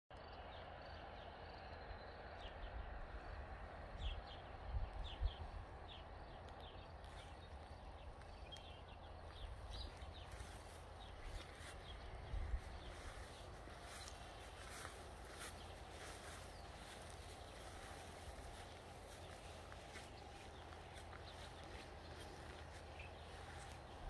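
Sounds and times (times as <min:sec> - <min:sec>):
small birds chirping: 0:01.6 - 0:24.0.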